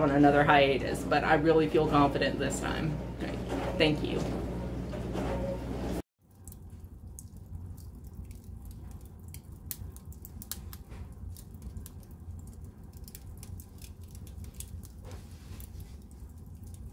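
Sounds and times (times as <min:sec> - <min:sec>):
low fire rumble: 0:00.0 - 0:16.9
wood fire crackling: 0:00.0 - 0:16.9.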